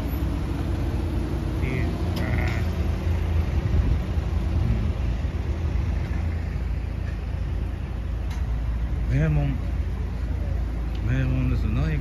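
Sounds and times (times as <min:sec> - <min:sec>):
cars and vans driving past: 0:00.0 - 0:12.0.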